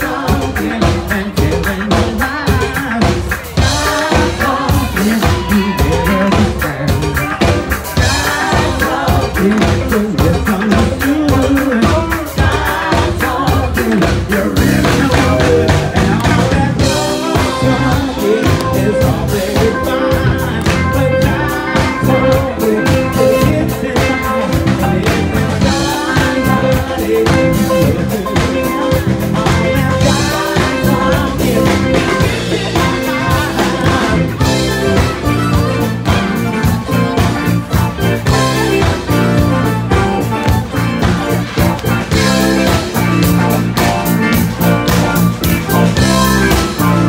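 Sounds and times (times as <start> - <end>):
live band playing upbeat song: 0.0 - 47.0
person singing: 0.0 - 47.0
steady drum beat: 0.0 - 47.0.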